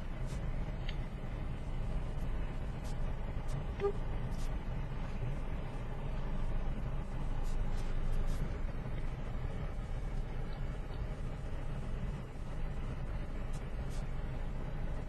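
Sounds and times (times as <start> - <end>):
car engine rumble from inside: 0.0 - 15.0.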